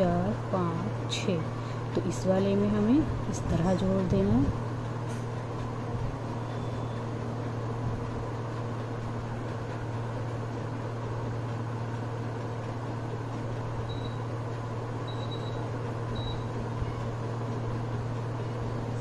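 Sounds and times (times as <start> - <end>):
machine hum with hiss: 0.0 - 19.0.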